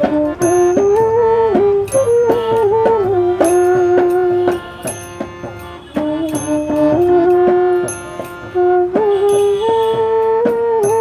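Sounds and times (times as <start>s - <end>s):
hand-drum beat: 0.0s - 11.0s
sliding instrumental melody: 0.0s - 11.0s.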